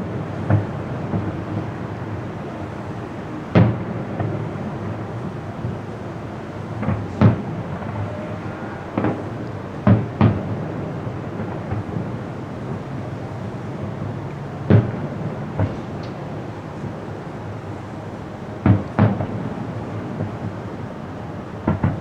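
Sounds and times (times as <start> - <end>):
fireworks booming: 0.0 - 17.0, 18.5 - 20.9, 21.5 - 22.0.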